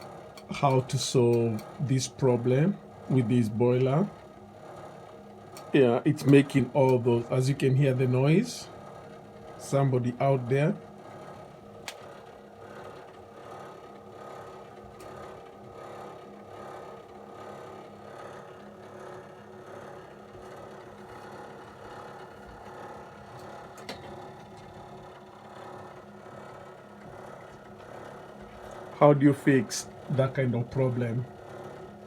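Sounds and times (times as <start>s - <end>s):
hot water cylinder humming: 0.0s - 32.0s.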